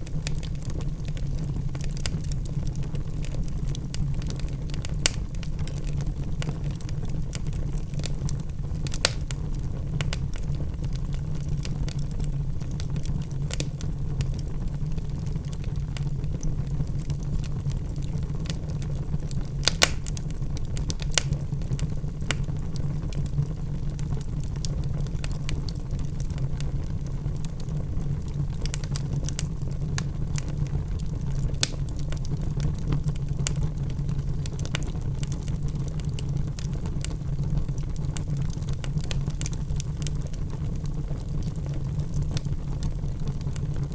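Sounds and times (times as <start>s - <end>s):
flames rumbling in fireplace: 0.0s - 43.9s
wood crackling and popping: 0.0s - 43.9s.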